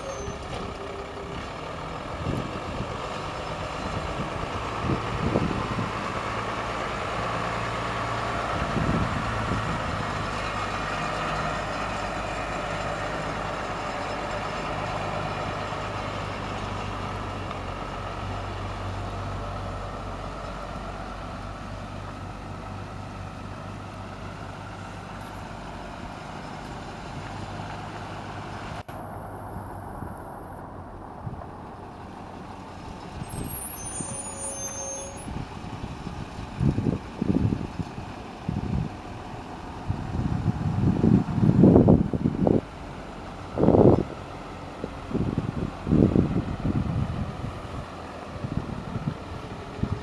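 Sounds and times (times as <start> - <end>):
bus engine humming: 0.0 - 50.0.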